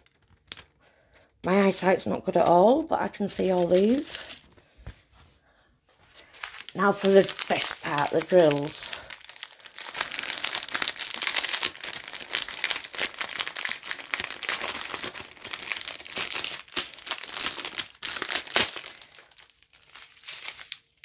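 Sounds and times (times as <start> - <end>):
plastic packaging crinkling: 0.0 - 4.6, 5.9 - 21.0.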